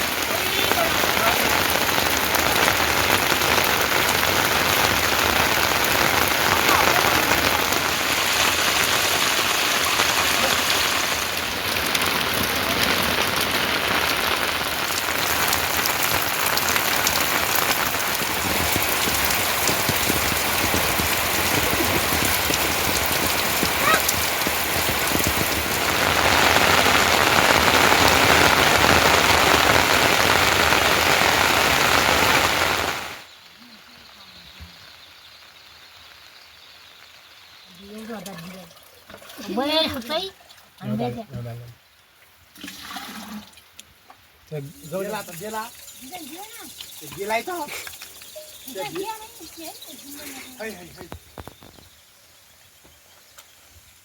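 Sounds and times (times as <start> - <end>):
rain drops pattering: 0.0 - 54.0.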